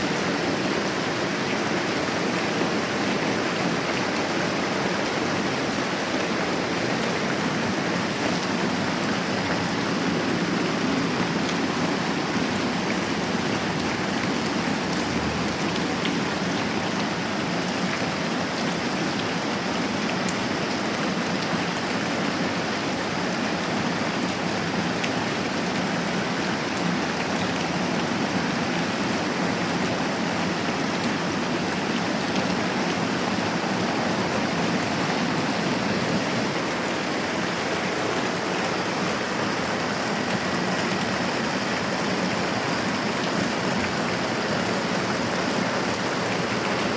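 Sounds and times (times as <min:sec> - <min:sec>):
rain falling steadily: 0:00.0 - 0:46.9.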